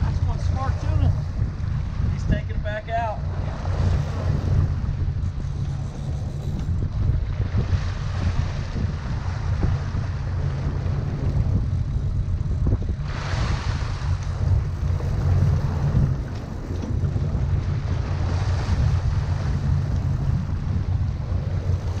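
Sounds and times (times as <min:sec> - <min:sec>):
boat engine rumbling: 0:00.0 - 0:22.0
water splashing against hull: 0:00.0 - 0:22.0
wind on the microphone: 0:00.0 - 0:22.0.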